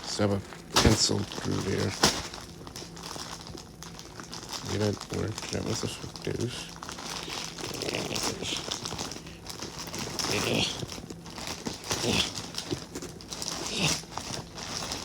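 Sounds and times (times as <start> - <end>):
package crinkling and tearing: 0.0 - 15.0.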